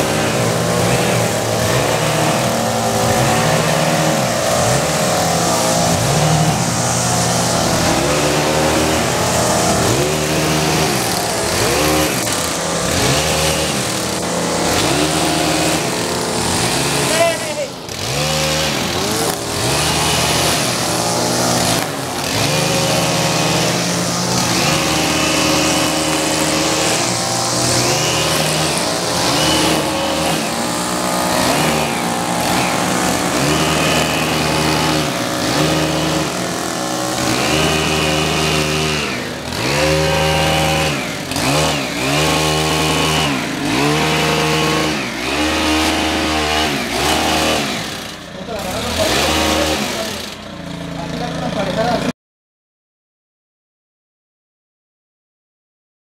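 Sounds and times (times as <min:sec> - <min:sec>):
hedge trimmer engine revving: 0:00.0 - 0:52.1.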